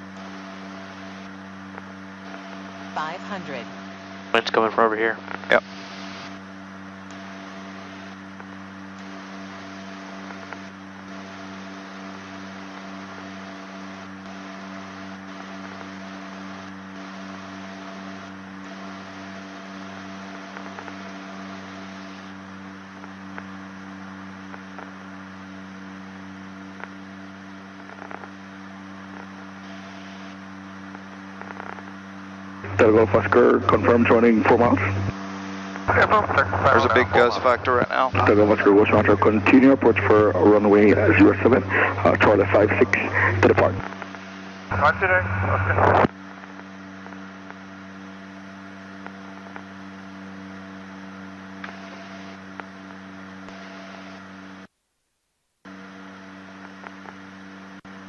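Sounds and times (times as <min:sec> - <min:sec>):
turboprop engines droning: 0:00.0 - 0:54.7.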